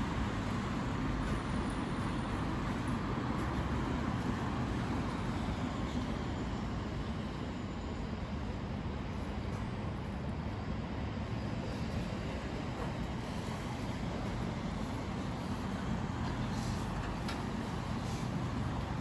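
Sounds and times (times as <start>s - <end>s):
distant city traffic rumble: 0.0s - 19.0s.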